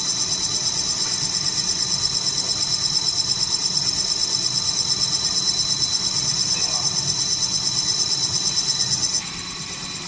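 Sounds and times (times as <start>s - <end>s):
machinery humming and hissing: 0.0s - 10.0s.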